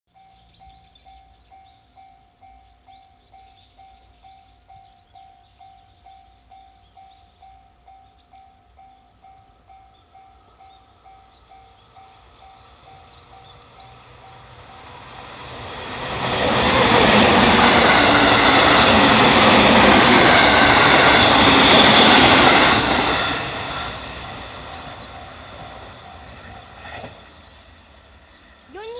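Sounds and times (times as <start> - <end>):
electric train passing: 0.1 - 28.9.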